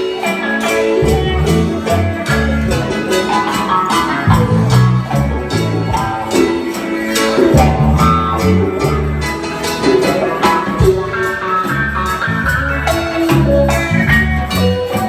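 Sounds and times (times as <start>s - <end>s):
live reggae band: 0.0s - 15.0s
bass line: 0.7s - 15.0s.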